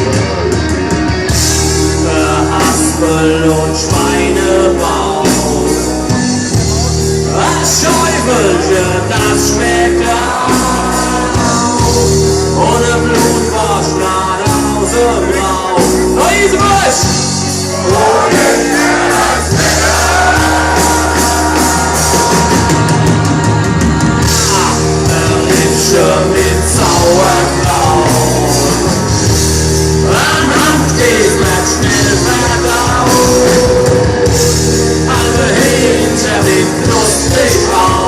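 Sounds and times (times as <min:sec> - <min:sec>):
live rock band playing: 0:00.0 - 0:38.0
person singing: 0:01.9 - 0:06.2, 0:07.2 - 0:23.1, 0:23.8 - 0:29.4, 0:30.0 - 0:38.0.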